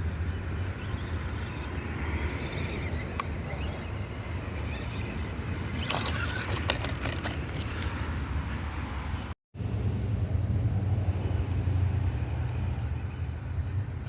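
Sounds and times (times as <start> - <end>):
rc truck low rumble: 0.0 - 14.0.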